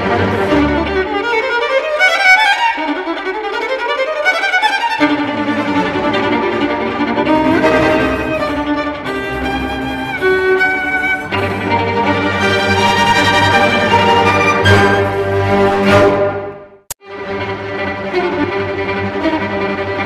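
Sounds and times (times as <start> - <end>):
violin music: 0.0 - 20.0.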